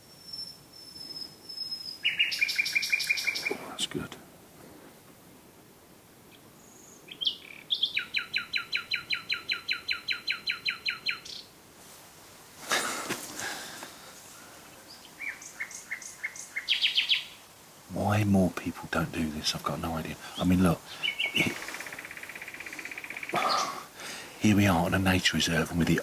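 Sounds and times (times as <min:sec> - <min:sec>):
nightingale singing: 0:00.0 - 0:04.1, 0:06.2 - 0:11.6, 0:12.8 - 0:26.0.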